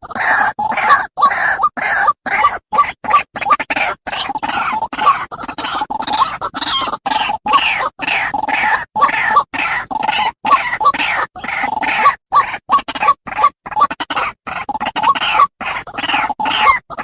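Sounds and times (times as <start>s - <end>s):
waterhen harsh repeated calls: 0.0s - 17.0s.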